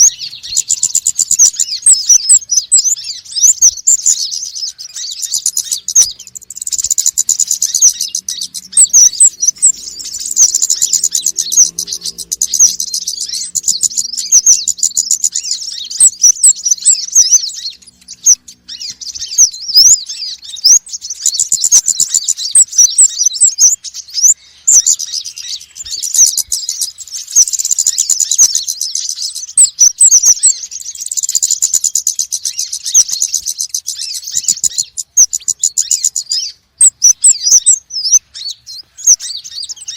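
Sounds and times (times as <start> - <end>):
sunbirds chirping and twittering: 0.0 - 39.9.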